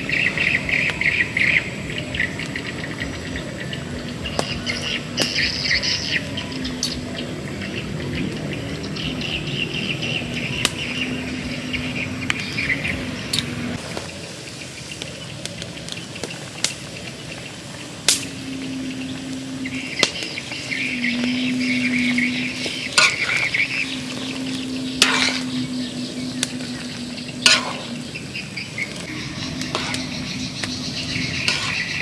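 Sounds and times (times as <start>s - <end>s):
outdoor chirping: 0.0s - 32.0s.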